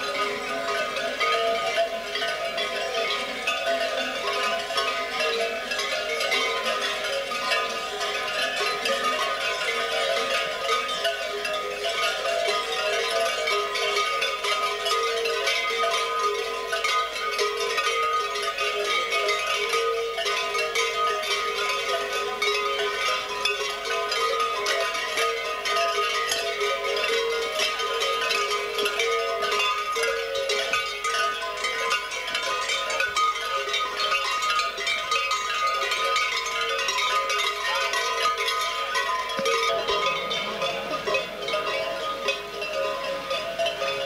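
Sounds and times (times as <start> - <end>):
costume bells clanging: 0.0 - 44.0.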